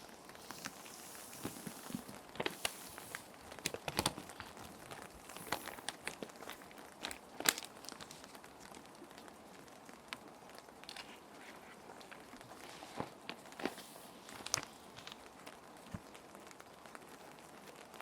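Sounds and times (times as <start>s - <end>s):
rain hiss: 0.0s - 3.9s, 4.6s - 18.0s
plastic sheets crinkling: 0.0s - 18.0s.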